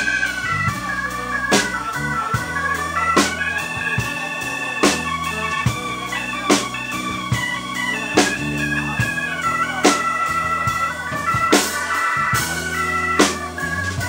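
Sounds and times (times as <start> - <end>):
funk band playing: 0.0 - 14.0
saxophone melody: 0.0 - 14.0.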